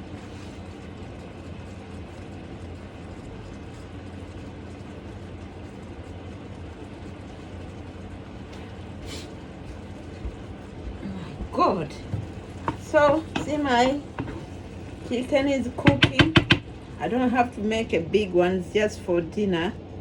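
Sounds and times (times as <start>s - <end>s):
chicken sizzling in a pan: 0.0s - 17.1s.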